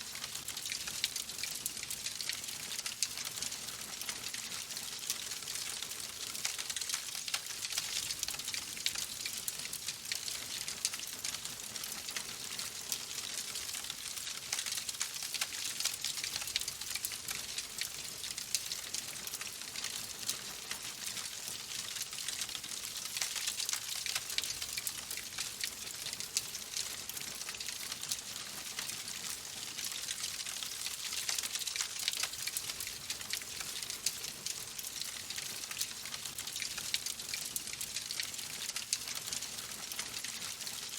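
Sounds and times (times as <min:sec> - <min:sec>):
wood fire crackling: 0:00.1 - 0:20.4, 0:21.8 - 0:40.8.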